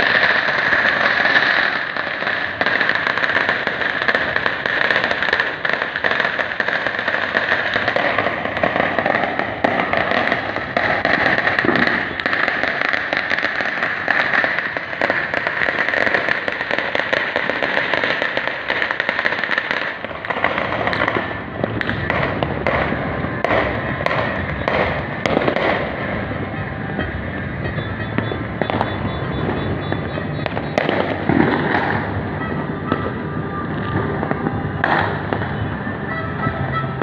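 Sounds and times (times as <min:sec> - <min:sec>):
firecrackers crackling and popping: 0:00.0 - 0:37.0.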